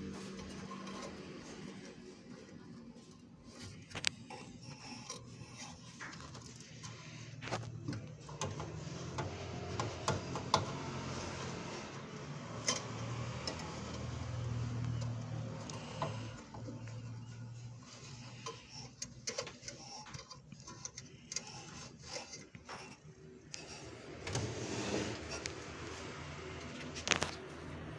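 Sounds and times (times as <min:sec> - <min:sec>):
hands rubbing and scraping parts: 0:00.0 - 0:27.9.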